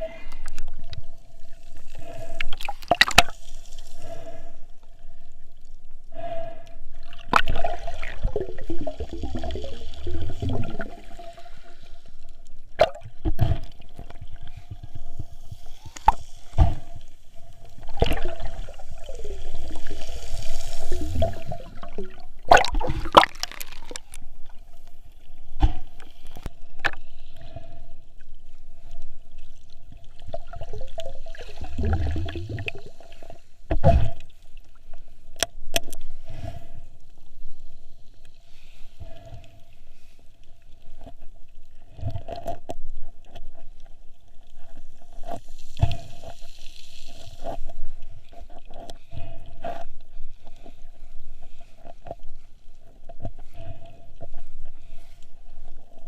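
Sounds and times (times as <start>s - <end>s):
water sloshing and gurgling: 0.0s - 56.0s.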